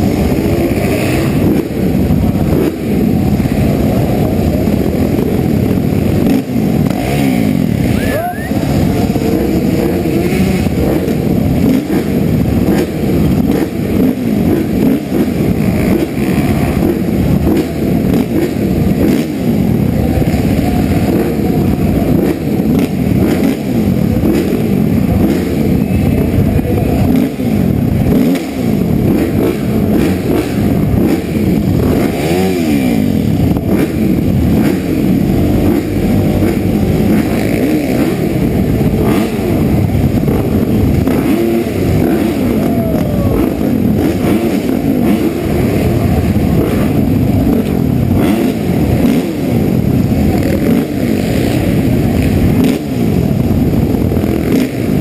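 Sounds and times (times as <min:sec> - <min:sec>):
motocross bikes idling and revving: 0:00.0 - 0:55.0.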